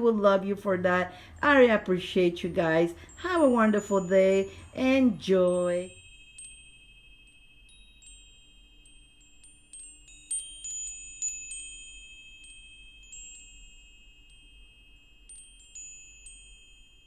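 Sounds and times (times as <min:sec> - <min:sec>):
wind chimes ringing: 0:01.0 - 0:17.0.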